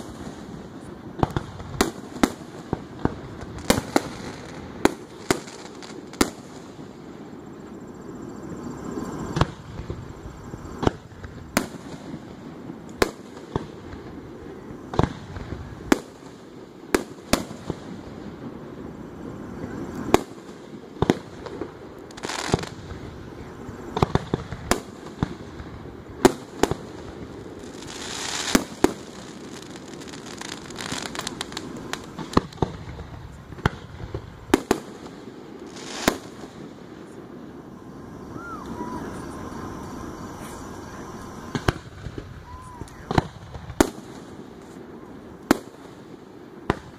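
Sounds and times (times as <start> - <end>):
fireworks bangs: 0.0 - 46.9
hissing crackle of fireworks: 0.0 - 46.9.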